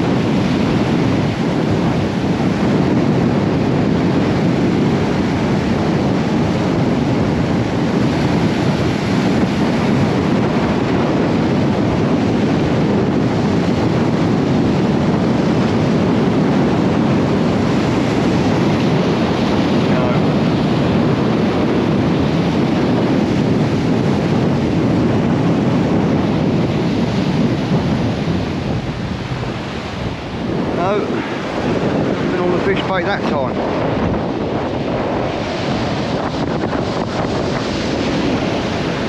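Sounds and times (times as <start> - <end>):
surf washing up beach: 0.0 - 39.0
wind buffeting microphone: 0.0 - 39.0.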